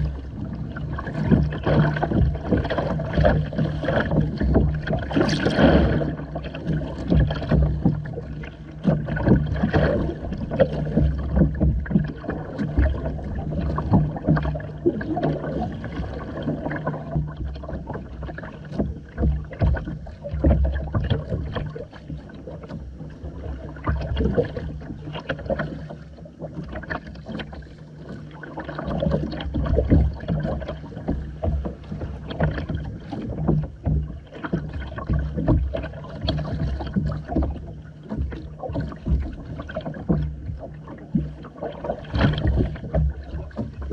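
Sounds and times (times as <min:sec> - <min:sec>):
water splashing against kayak hull: 0:00.0 - 0:43.9.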